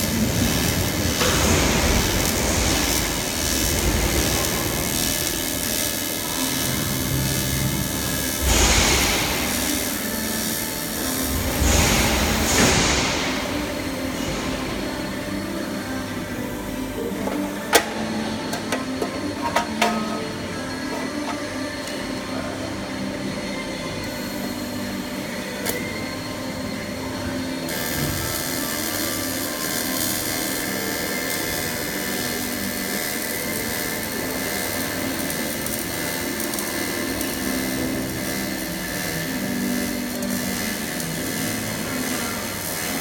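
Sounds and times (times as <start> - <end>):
welding arc buzzing hiss: 0.0 - 43.0.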